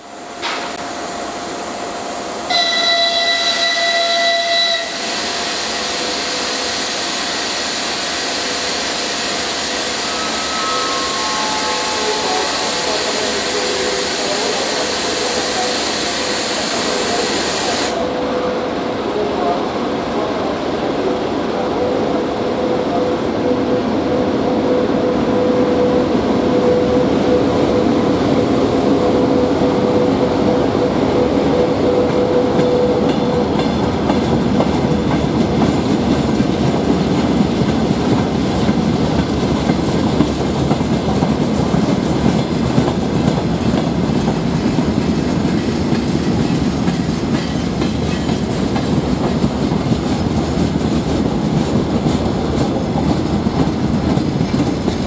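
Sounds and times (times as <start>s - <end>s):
electric locomotive humming: 0.0s - 55.0s.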